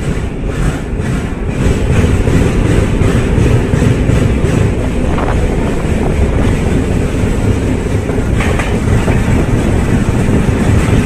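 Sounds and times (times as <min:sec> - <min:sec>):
train rumbling: 0:00.0 - 0:11.0
wheels clattering on rails: 0:00.0 - 0:11.0.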